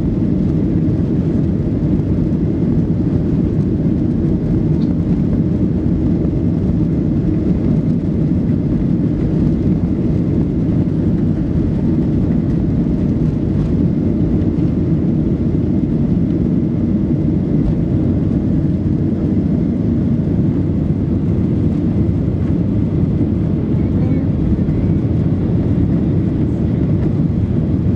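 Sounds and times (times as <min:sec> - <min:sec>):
jet engines at takeoff thrust: 0:00.0 - 0:27.9.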